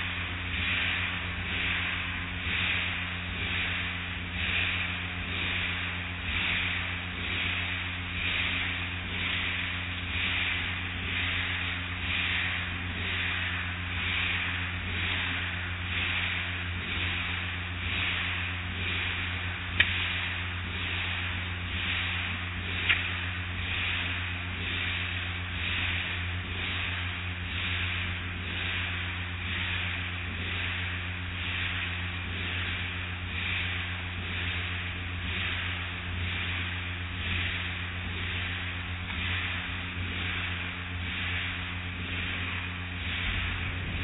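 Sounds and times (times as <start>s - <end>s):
machinery hum: 0.0s - 44.0s
water spraying: 0.0s - 44.0s.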